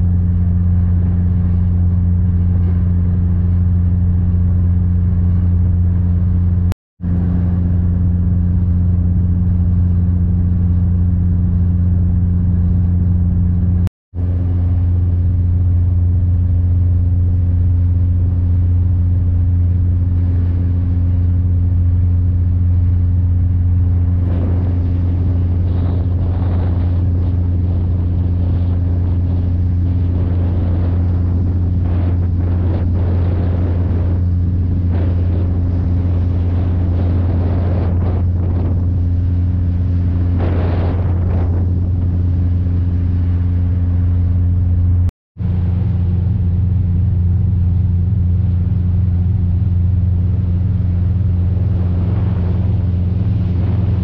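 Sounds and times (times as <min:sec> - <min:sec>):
boat diesel engine drone: 0:00.0 - 0:54.0.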